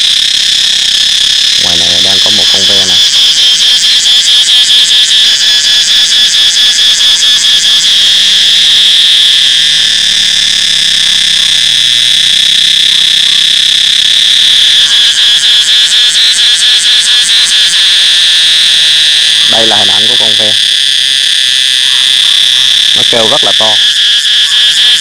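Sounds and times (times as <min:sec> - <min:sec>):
cicada buzzing: 0:00.0 - 0:25.0.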